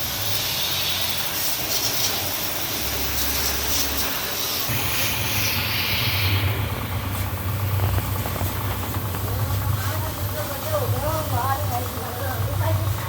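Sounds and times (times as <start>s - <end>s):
pressure washer jet hissing: 0.0s - 13.0s
washer motor humming: 0.0s - 13.0s.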